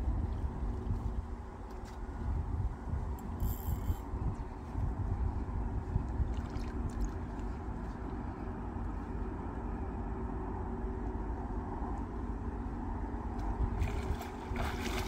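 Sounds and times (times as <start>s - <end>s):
wind rumbling on microphone: 0.0s - 9.3s, 11.3s - 15.0s.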